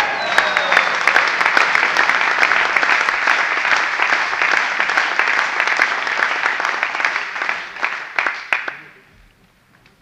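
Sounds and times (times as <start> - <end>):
crowd clapping: 0.0 - 9.1.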